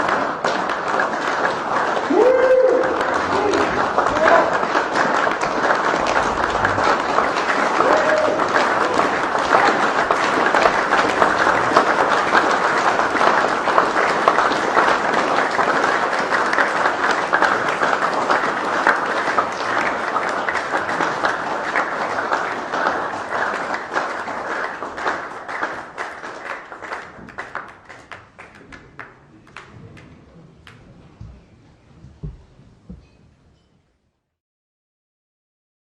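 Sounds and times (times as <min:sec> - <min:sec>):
audience applause: 0:00.0 - 0:33.0.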